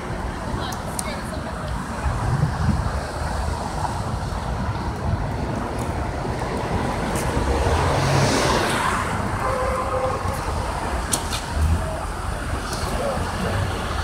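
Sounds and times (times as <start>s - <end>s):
street traffic: 0.0s - 14.0s
vehicle passing: 2.0s - 14.0s.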